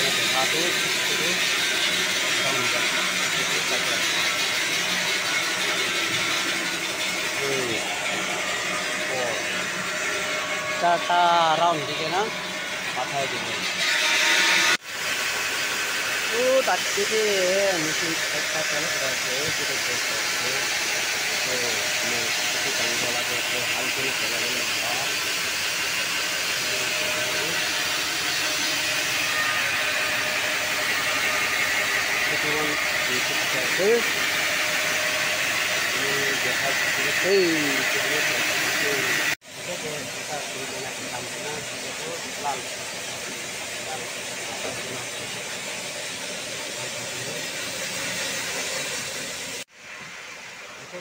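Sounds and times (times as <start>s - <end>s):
spraying water: 0.0s - 10.8s, 11.6s - 51.0s
stone-cutting saw hissing: 0.0s - 49.7s.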